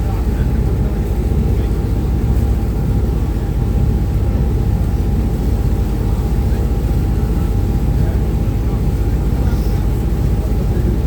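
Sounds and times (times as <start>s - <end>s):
boat engines low rumble: 0.0s - 11.0s.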